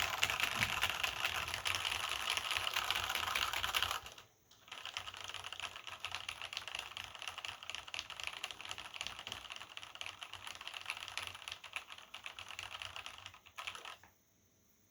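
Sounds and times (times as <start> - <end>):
mechanical keyboard typing: 0.0 - 14.1.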